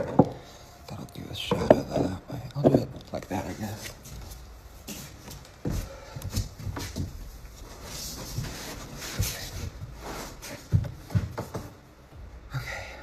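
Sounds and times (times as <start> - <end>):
soft knocks and rustling: 1.5 - 12.3.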